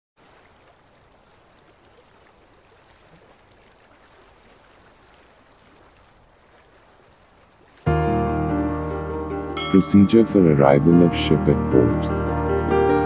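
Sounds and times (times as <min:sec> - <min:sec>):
sea water rushing along hull: 0:00.2 - 0:13.0.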